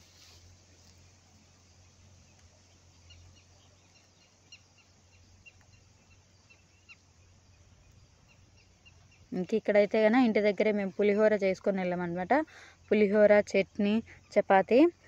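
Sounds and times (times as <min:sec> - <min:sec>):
outdoor background hum: 0:00.0 - 0:15.0.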